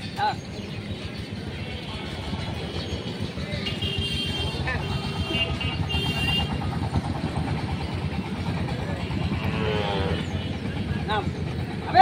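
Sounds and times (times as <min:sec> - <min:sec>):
vehicle engine running: 0:00.6 - 0:12.0.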